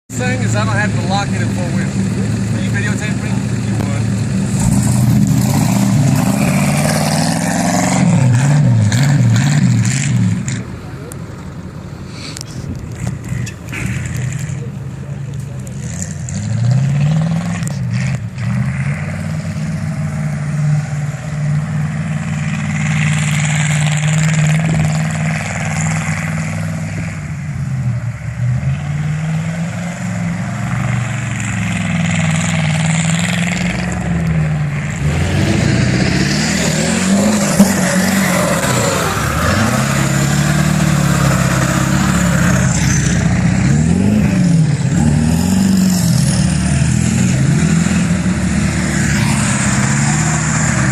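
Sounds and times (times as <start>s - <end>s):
pickup truck engine revving: 0.1s - 50.9s.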